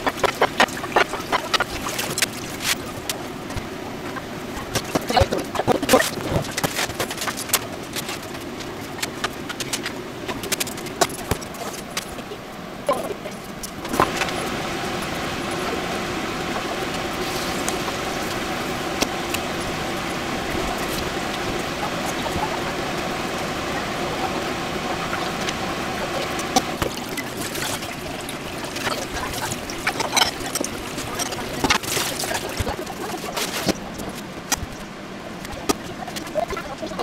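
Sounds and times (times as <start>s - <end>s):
boiling water hissing: 0.0s - 37.0s.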